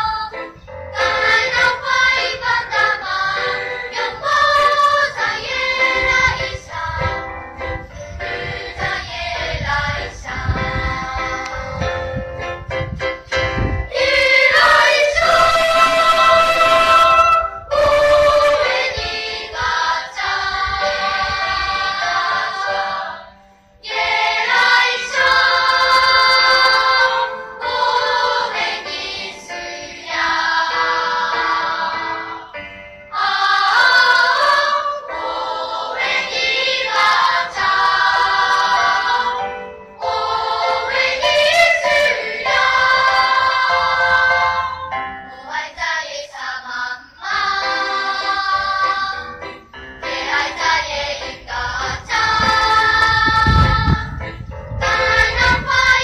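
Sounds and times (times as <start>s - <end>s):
children's choir singing: 0.0s - 12.0s, 13.9s - 56.0s.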